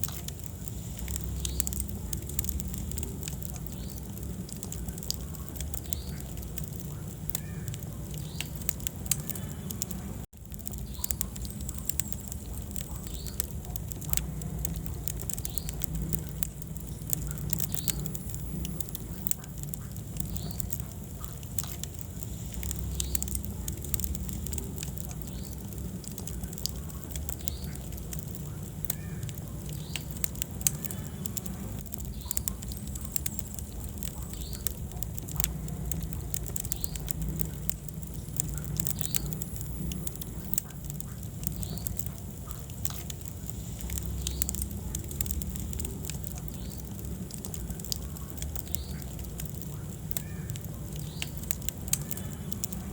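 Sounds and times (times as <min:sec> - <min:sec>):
fire crackles and pops: 0:00.0 - 0:52.9
fire flames rumbling: 0:00.0 - 0:52.9.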